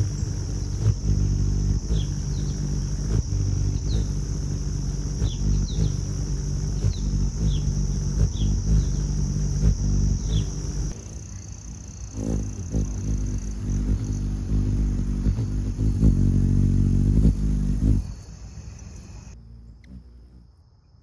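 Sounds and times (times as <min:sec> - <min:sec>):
hummingbird wings humming: 0:00.0 - 0:20.9.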